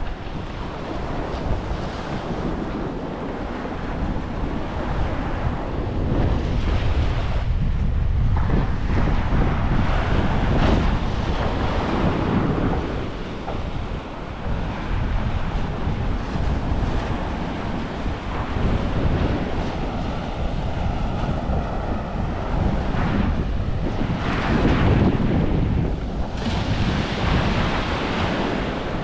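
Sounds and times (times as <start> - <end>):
surf breaking on beach: 0.0 - 29.0
wind buffeting microphone: 0.0 - 29.0.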